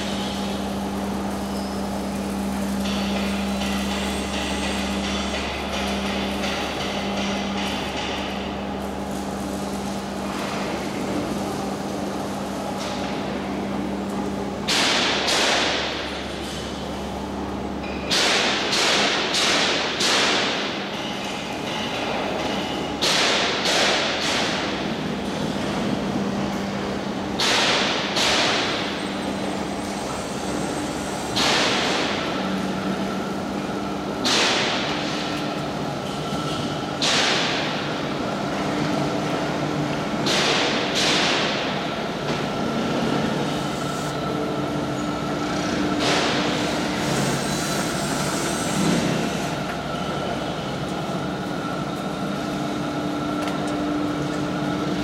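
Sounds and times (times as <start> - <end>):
machinery hum with low drone: 0.0 - 55.0.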